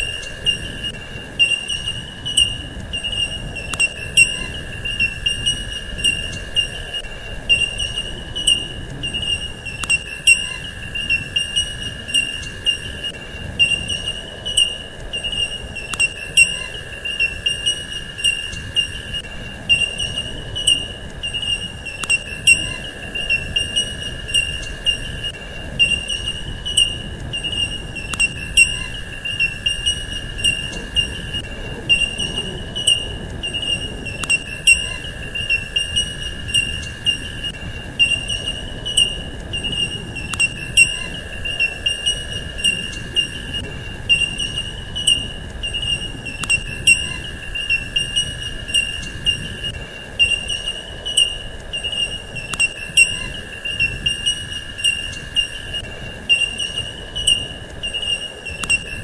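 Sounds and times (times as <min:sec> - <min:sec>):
sharp clicks: 0:00.0 - 0:47.1, 0:56.4 - 0:59.0
high-pitched insect-like trill: 0:00.0 - 0:59.0.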